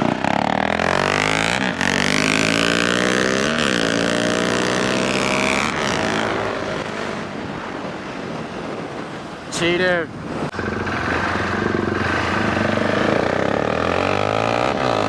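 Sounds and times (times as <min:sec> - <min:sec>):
motorcycle engine accelerating: 0:00.0 - 0:08.0, 0:10.4 - 0:15.0.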